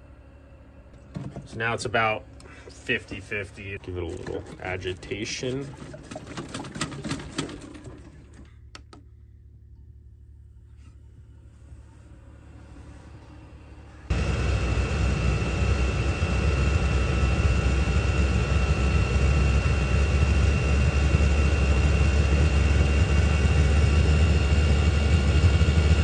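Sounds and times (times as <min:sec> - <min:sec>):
diesel air heater running: 0:00.0 - 0:26.0.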